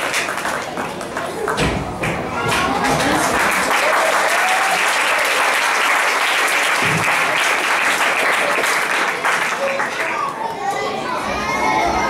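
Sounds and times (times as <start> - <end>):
audience applauding: 0.0 - 1.6, 2.4 - 10.5.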